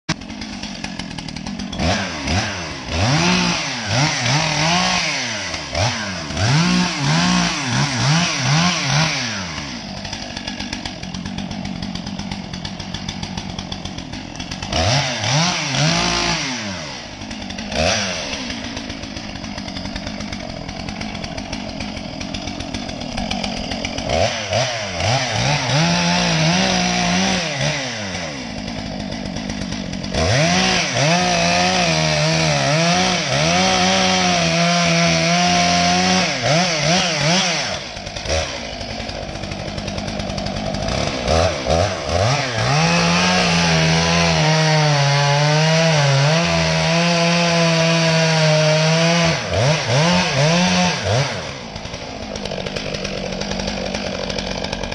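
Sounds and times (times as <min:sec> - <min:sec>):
chainsaw engine revving: 0:00.1 - 0:54.9.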